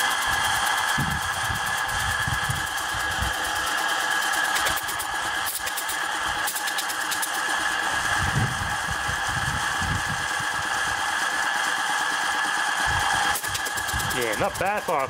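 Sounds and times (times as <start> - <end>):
compressor strokes pulsing: 0.0 - 15.0
electric motor whine and hum: 0.0 - 15.0.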